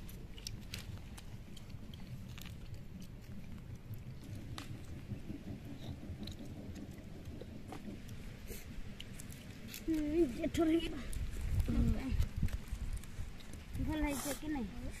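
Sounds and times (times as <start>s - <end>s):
chewing: 0.0s - 14.5s
steady low rumble: 0.0s - 15.0s.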